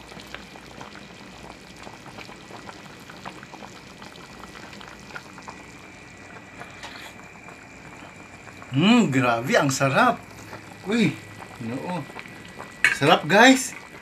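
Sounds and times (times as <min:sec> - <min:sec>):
broth boiling with bubbling pops: 0:00.0 - 0:14.0.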